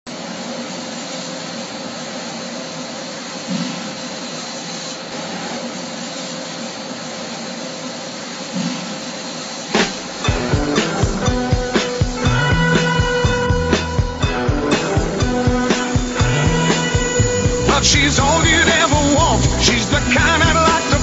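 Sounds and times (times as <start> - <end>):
molding machine hissing: 0.1 - 21.0
low mechanical surges: 2.5 - 21.0.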